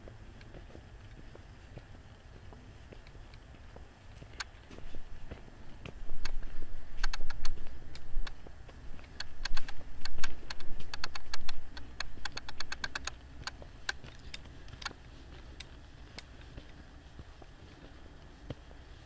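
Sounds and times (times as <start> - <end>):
footsteps crunching on trail: 0.0 - 19.0.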